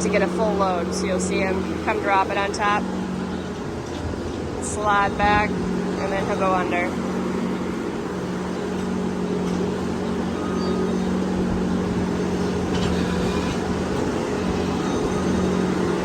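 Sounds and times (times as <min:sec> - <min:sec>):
loader engine running: 0:00.0 - 0:16.0
rushing background noise: 0:00.0 - 0:16.0.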